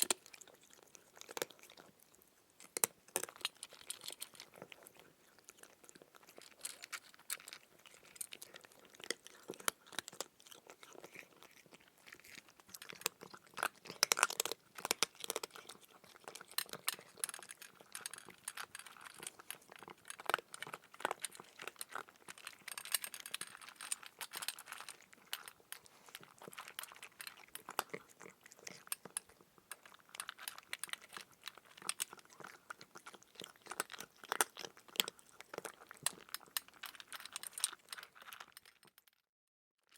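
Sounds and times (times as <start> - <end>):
crunchy chewing: 0.0 - 39.0.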